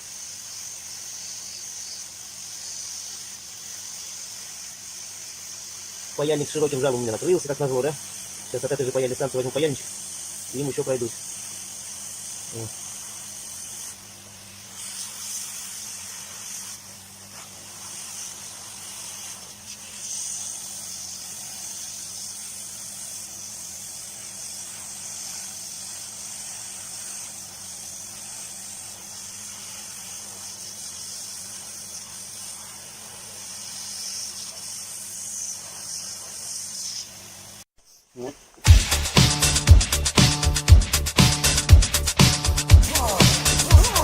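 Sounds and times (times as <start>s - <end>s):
hot-air blower hissing: 0.0s - 44.0s.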